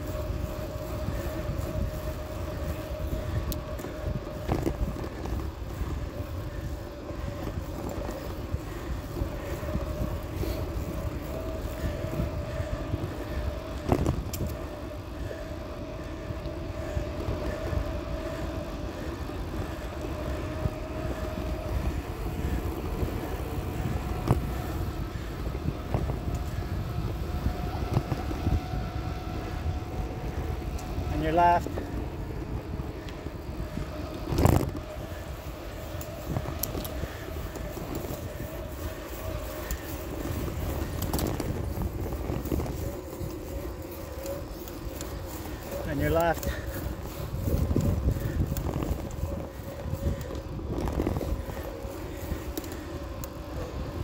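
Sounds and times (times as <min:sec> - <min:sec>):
faint steady whine: 0:00.0 - 0:54.0
wind and road rumble: 0:00.0 - 0:54.0.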